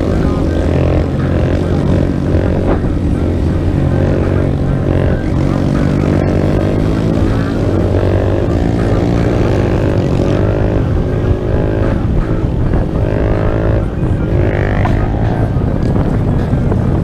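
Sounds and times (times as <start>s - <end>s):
minibike engine accelerating: 0.0s - 17.0s.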